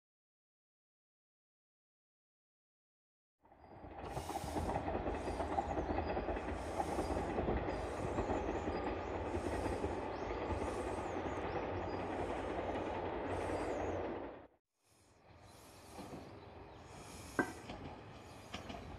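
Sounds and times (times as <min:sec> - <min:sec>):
diesel train rumbling: 0:03.5 - 0:18.9.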